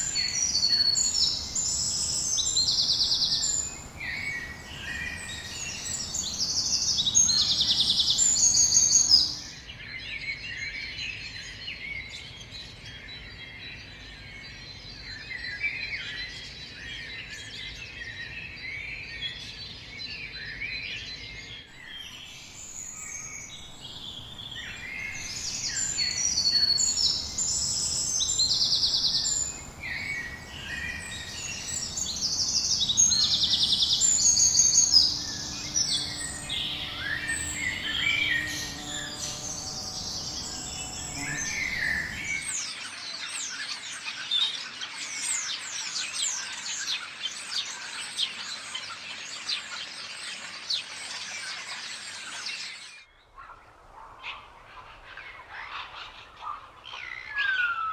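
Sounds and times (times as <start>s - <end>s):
birds calling and singing: 0.0s - 57.9s.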